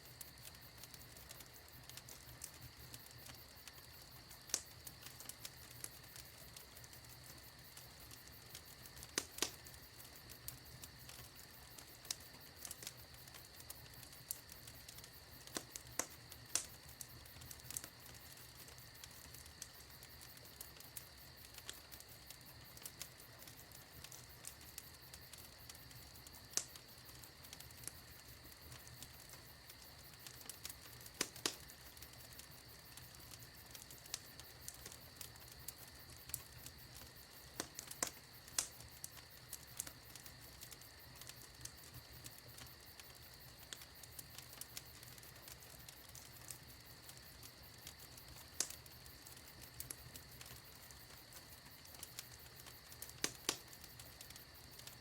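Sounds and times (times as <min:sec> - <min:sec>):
faint steady hiss: 0:00.0 - 0:55.0
fire crackling and popping: 0:00.0 - 0:55.0.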